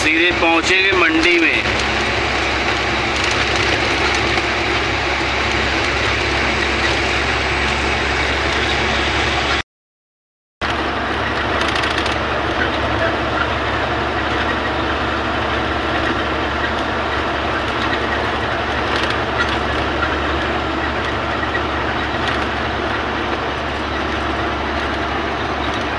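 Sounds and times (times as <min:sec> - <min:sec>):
truck engine and road noise: 0:00.0 - 0:09.6, 0:10.6 - 0:25.9.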